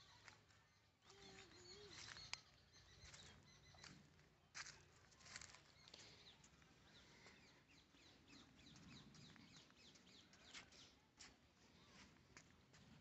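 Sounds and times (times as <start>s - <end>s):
faint birdsong chirps: 0.0s - 13.0s.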